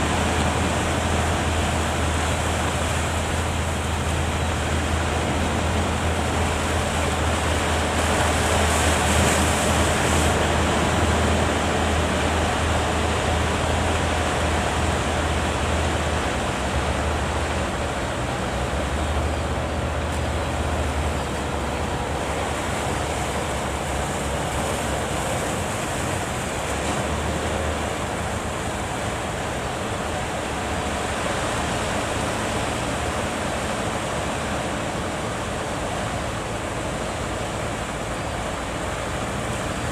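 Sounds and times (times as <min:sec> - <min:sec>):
breaking waves: 0:00.0 - 0:39.9.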